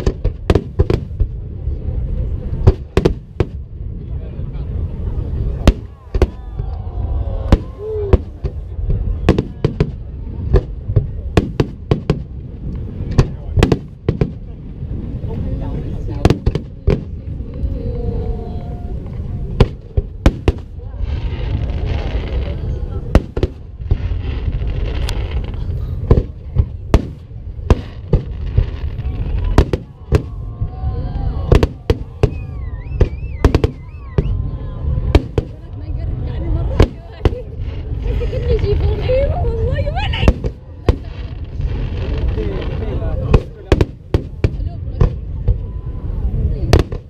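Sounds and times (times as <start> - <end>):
fireworks bangs: 0.0 - 4.1, 5.2 - 47.0
low rumble: 0.0 - 47.0.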